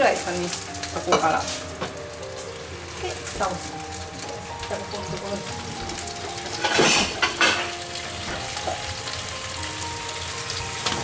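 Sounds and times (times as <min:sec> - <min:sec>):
patties sizzling in a frying pan: 0:00.0 - 0:11.0.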